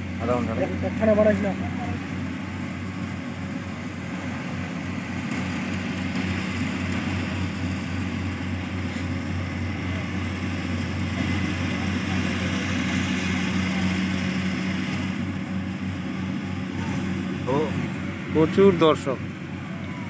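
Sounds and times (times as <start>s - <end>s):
combine harvester engine droning: 0.0s - 20.0s.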